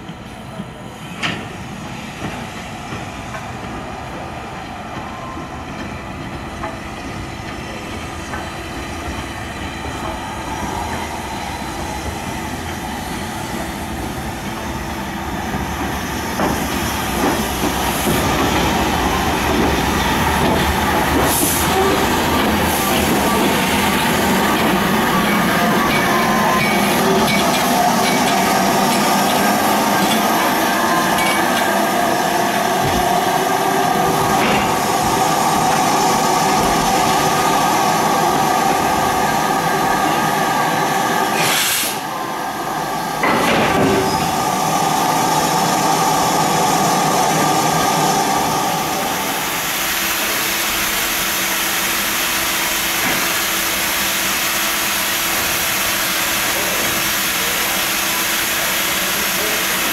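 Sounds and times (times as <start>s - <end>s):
steam locomotive hissing: 0.1s - 59.9s.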